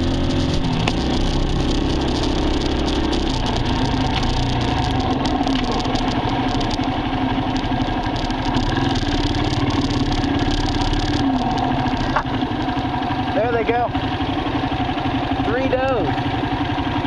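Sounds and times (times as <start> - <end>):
dirt bike engine at low revs: 0.0 - 17.0.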